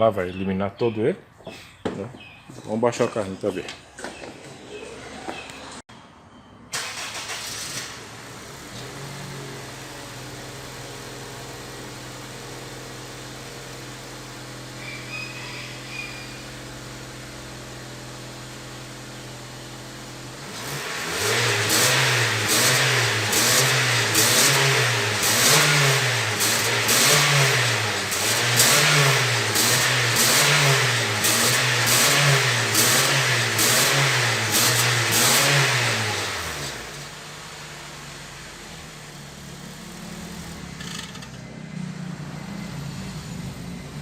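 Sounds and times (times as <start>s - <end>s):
car engine idling and revving: 6.8s - 44.0s.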